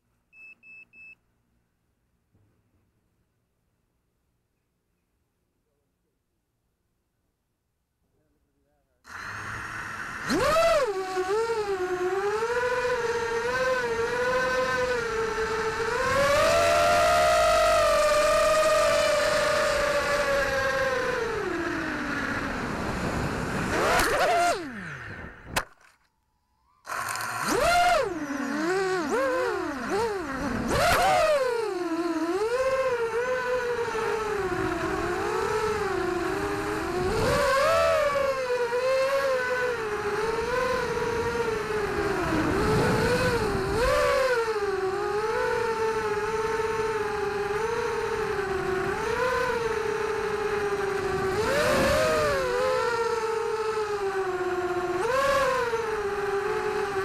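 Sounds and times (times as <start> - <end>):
quadcopter motors whining: 9.1 - 57.0.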